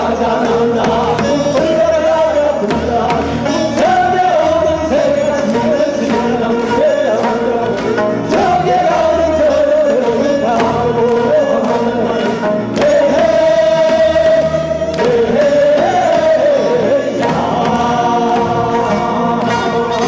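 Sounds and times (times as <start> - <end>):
group singing folk song: 0.0 - 20.0
tapped beat: 0.0 - 20.0.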